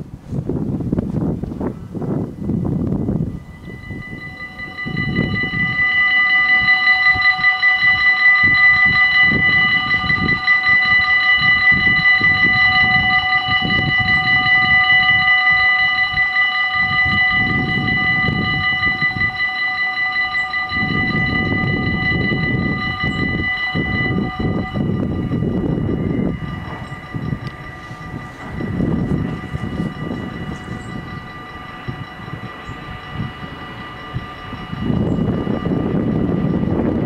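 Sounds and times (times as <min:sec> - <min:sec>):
wind buffeting microphone: 0:00.0 - 0:37.0
level crossing warning bells: 0:01.2 - 0:37.0.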